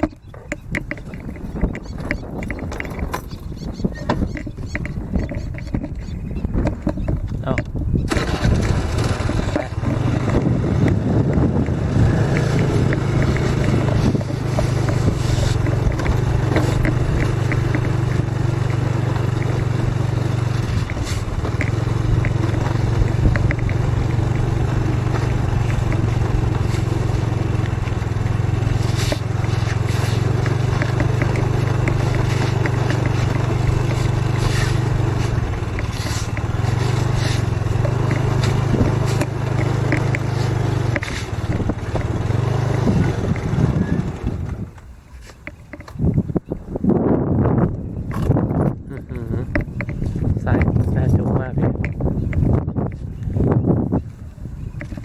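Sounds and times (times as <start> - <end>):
rattles and scrapes: 0.0 - 46.4, 47.5 - 54.0
vehicle motor running: 0.0 - 55.0.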